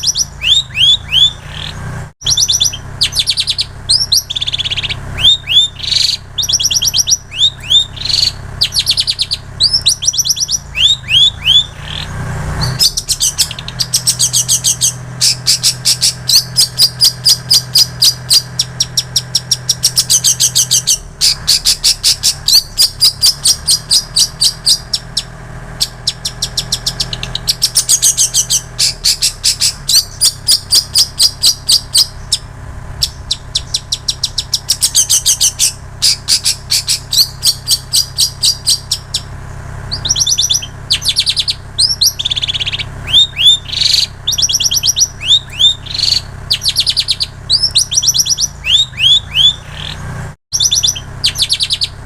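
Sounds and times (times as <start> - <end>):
shrike singing varied song: 0.0 - 52.0.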